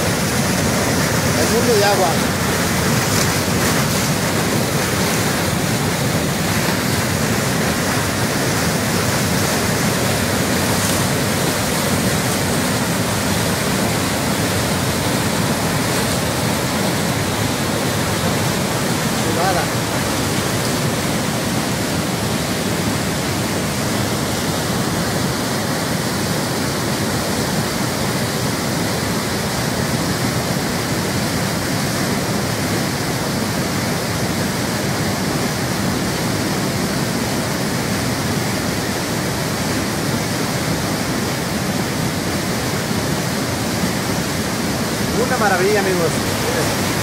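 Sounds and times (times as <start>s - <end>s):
waterfall rushing over rocks: 0.0s - 47.0s.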